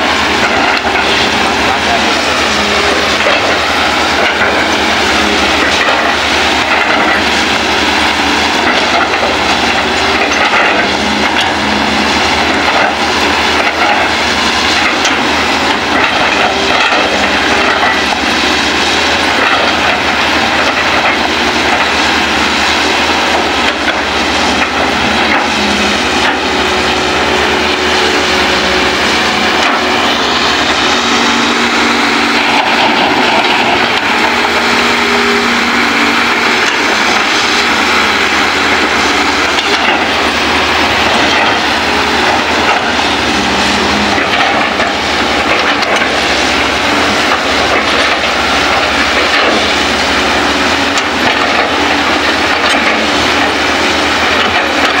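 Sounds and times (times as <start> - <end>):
excavator diesel engines running: 0.0 - 55.0
machinery clattering: 0.0 - 55.0.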